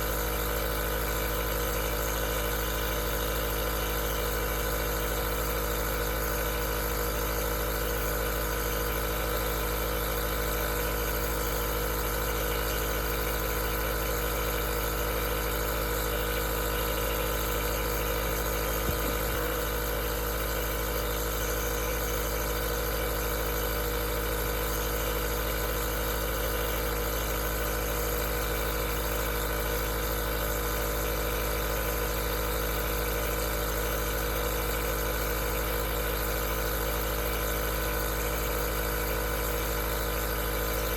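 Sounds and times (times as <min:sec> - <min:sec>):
compressor motor hum with hiss: 0:00.0 - 0:40.9.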